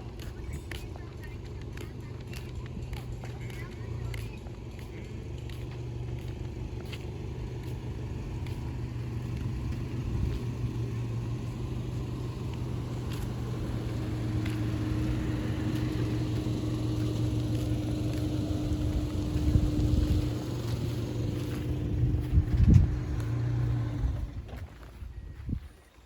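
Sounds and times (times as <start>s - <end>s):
motor vehicle hum: 0.0s - 26.0s.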